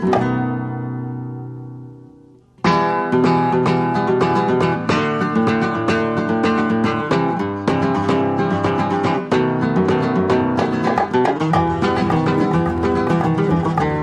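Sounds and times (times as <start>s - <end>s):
acoustic guitar plucking: 0.0s - 14.0s.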